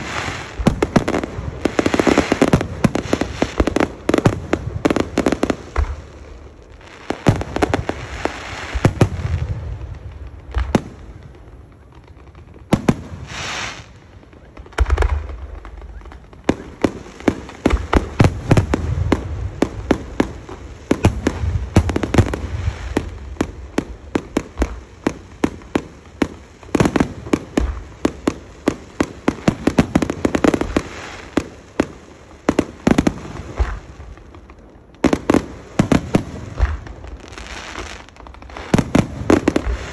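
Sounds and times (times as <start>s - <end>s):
firework hiss: 0.0s - 39.9s
fireworks bangs and crackling: 0.0s - 39.9s.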